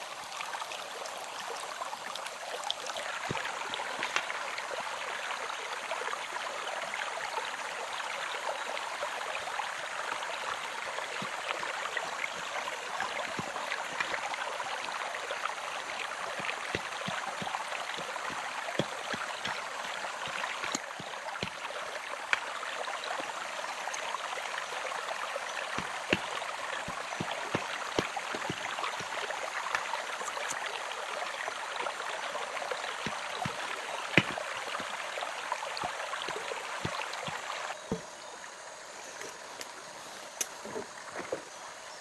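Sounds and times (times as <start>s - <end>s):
running water splashing: 0.0s - 38.0s.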